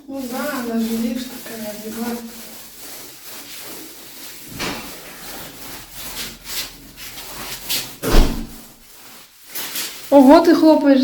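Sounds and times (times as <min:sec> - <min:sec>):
scrubbing on ceramic tile: 0:00.0 - 0:11.0.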